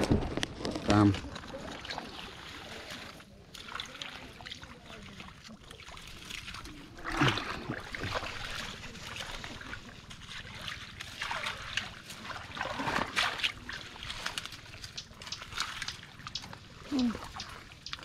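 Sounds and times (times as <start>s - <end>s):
mud and water squelching and splashing: 0.0s - 18.0s.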